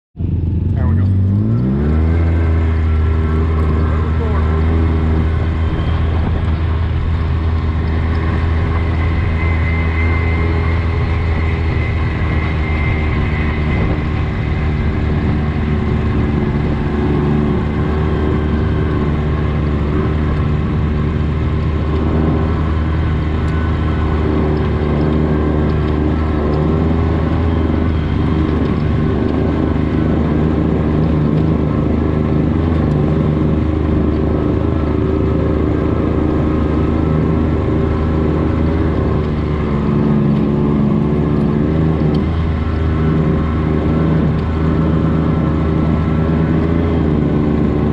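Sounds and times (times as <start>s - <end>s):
off-road vehicle engine running: 0.2s - 47.9s.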